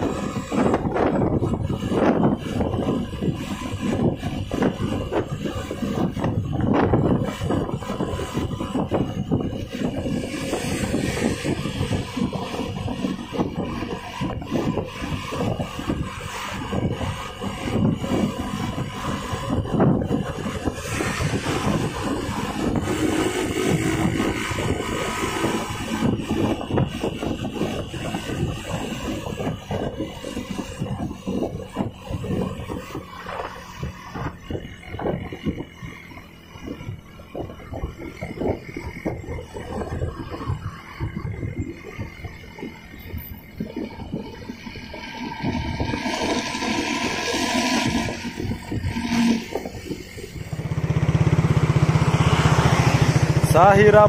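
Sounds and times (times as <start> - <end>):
bus diesel exhaust growl: 0.0 - 54.0
traffic rushing past: 0.0 - 54.0.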